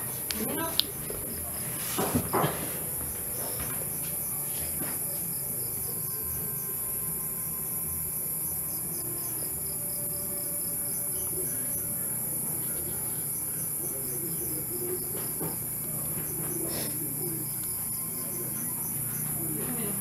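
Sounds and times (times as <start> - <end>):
insects shrilling: 0.0 - 20.0
repeating cricket chirps: 0.0 - 20.0.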